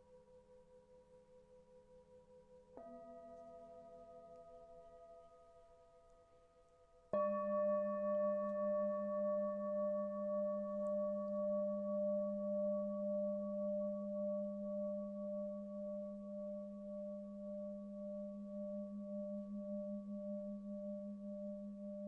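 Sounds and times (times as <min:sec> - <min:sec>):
singing bowl struck and ringing: 0:02.8 - 0:22.0.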